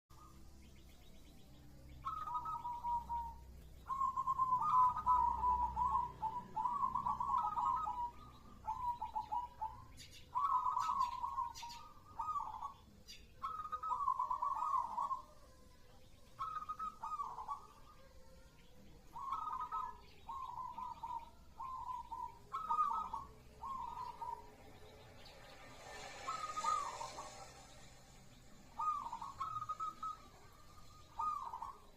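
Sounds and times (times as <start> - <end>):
dove cooing: 2.0 - 15.6, 16.3 - 24.8, 26.1 - 27.7, 28.6 - 31.9.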